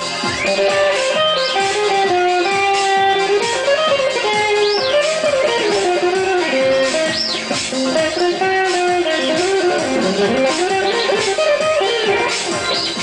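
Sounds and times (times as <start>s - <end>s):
lead guitar with sliding notes: 0.0s - 13.0s
steady beat: 0.0s - 13.0s.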